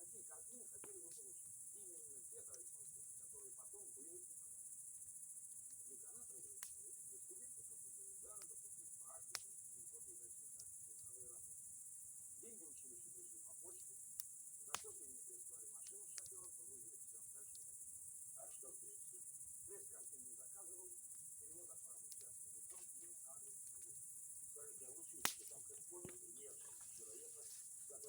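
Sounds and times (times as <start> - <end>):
crickets chirring: 0.0 - 28.0
bonfire crackling and popping: 0.1 - 28.0.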